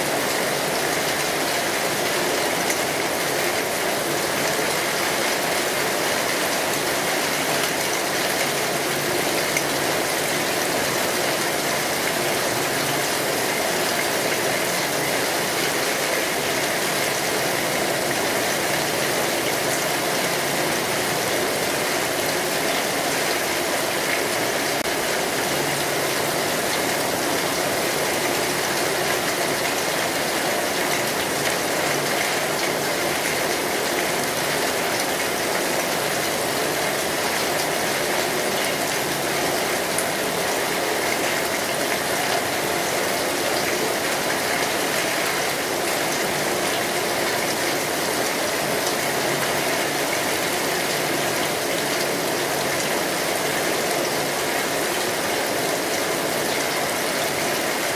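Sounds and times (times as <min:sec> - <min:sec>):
rain falling on a street: 0:00.0 - 0:57.9.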